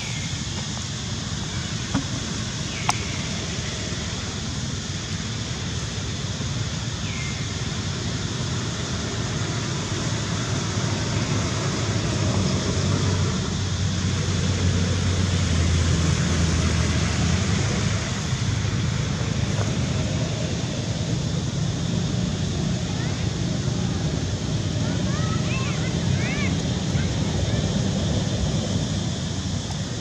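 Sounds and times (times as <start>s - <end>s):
outdoor background noise with low rumble: 0.0s - 30.0s.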